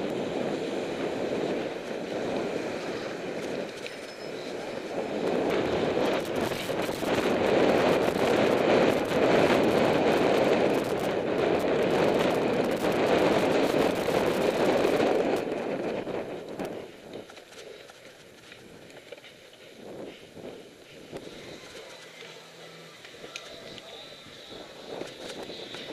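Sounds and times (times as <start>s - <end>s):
wind buffeting microphone: 0.0s - 25.9s
bike rattling clicks: 1.8s - 25.9s.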